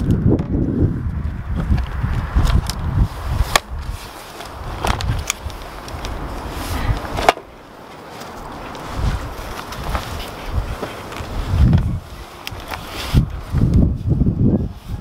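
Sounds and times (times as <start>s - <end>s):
wind rumble on microphone: 0.0s - 7.7s, 8.4s - 15.0s.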